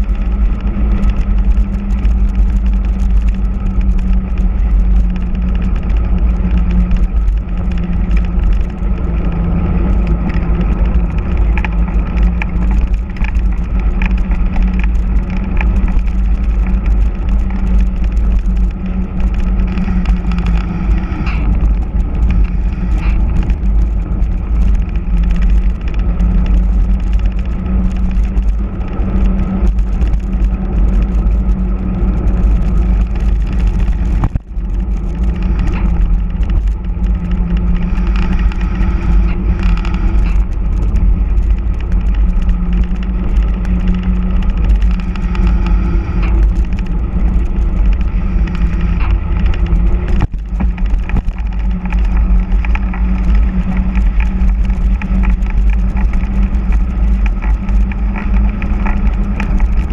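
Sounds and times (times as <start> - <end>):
tyres humming on tarmac: 0.0 - 59.9
wind rushing over microphone: 0.0 - 59.9.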